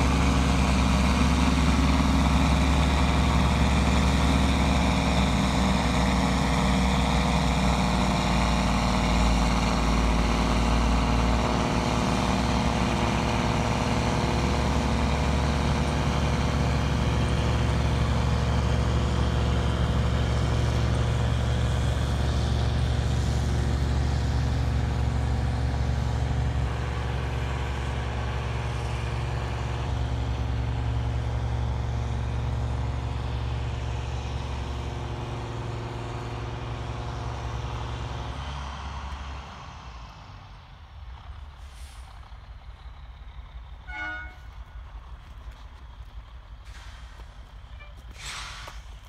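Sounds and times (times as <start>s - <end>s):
diesel truck engines droning: 0.0s - 49.0s.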